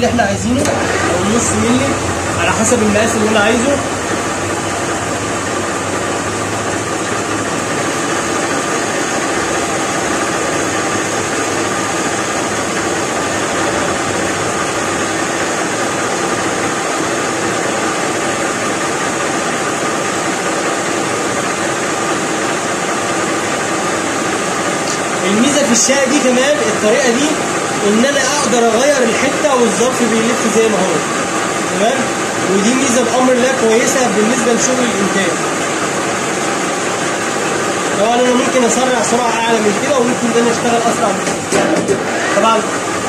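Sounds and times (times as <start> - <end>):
metal lathe running: 0.0 - 43.0.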